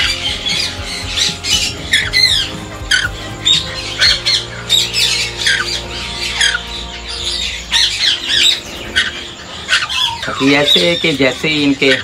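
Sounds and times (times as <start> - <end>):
conures squawking: 0.0 - 12.0.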